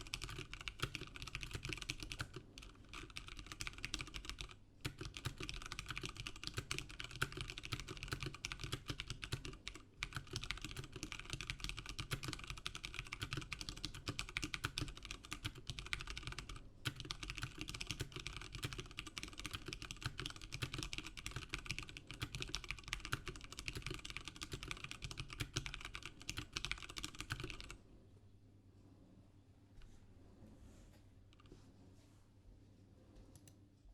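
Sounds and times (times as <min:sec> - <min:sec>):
fast mechanical keyboard typing: 0:00.0 - 0:27.8.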